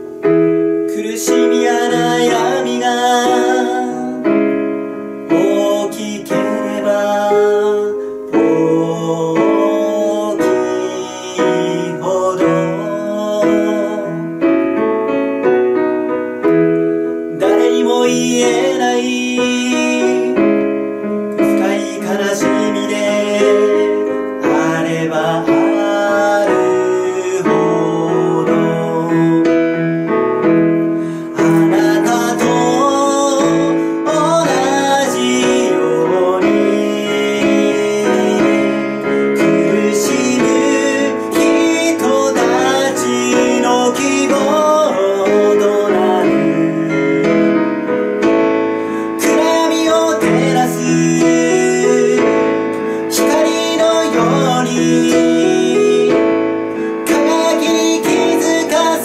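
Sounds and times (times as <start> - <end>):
man singing: 0.0 - 14.9, 16.4 - 59.0
piano accompaniment: 0.0 - 59.0.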